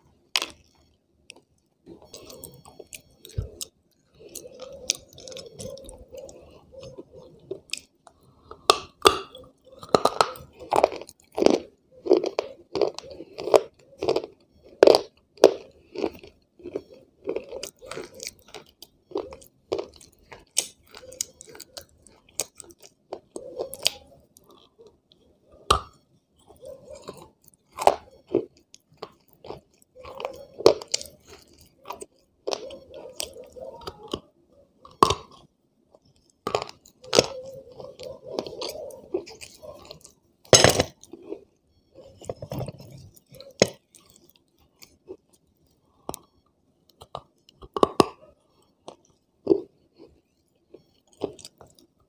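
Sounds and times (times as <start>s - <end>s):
person chewing and crunching clay: 0.0s - 52.0s.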